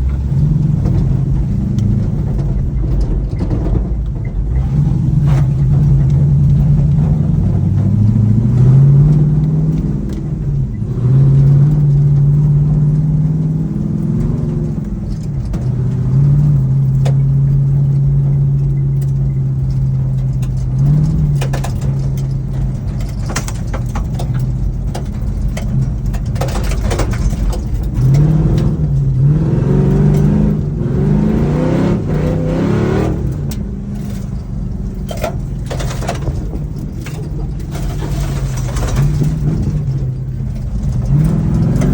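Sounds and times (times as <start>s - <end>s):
sharp clicks and knocks: 0.0s - 41.9s
truck engine revving: 0.0s - 41.9s.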